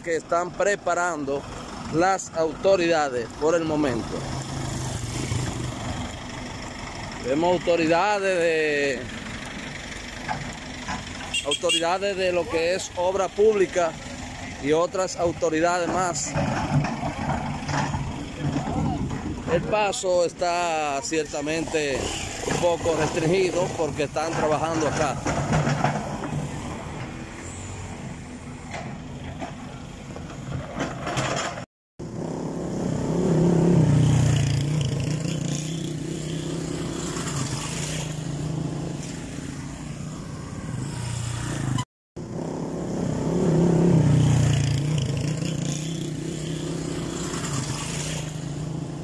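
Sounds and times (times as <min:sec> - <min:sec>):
vehicle engines in slow traffic: 0:00.0 - 0:49.0.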